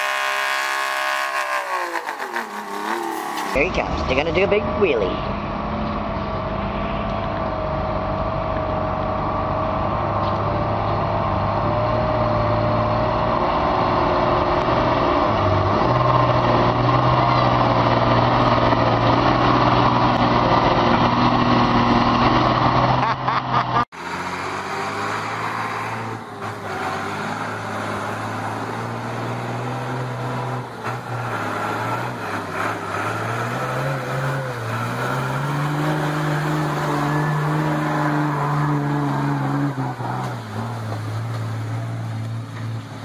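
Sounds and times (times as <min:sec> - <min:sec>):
truck diesel engine droning: 0:00.0 - 0:43.0.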